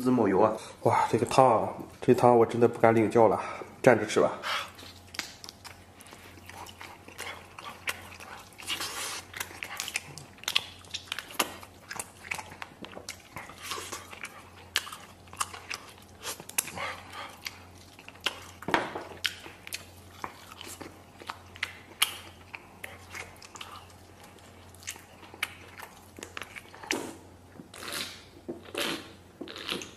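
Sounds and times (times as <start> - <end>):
man chewing with wet smacking: 4.7 - 29.9.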